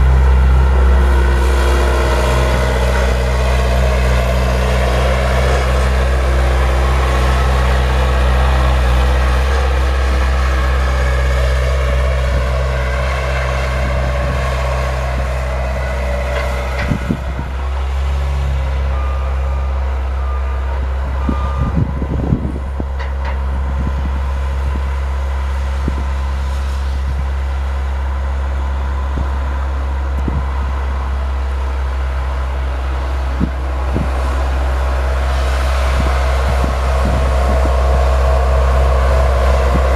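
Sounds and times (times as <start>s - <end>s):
snowplow engine running: 0.0s - 39.9s.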